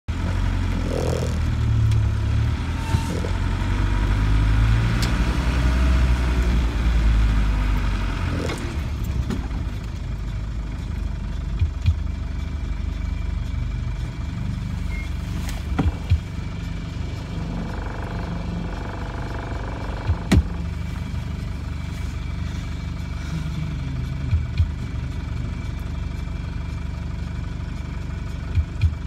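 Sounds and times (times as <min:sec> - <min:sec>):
diesel engine from inside cab: 0:00.0 - 0:29.0.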